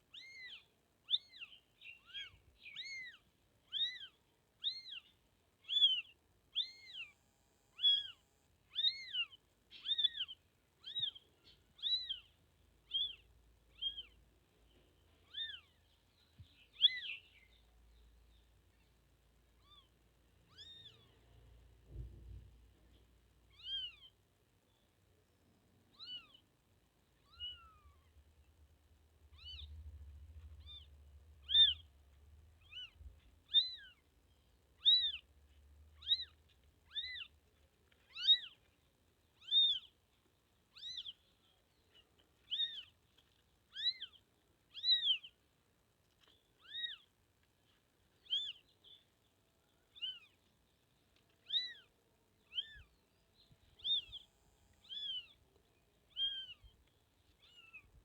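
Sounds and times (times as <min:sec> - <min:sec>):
faint low rumble: 0:01.3 - 0:58.0.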